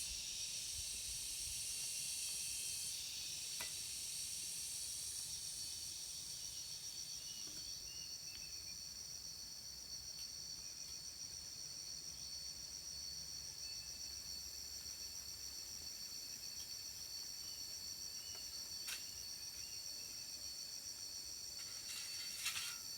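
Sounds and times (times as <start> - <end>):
insect chorus trilling: 0.0 - 22.9.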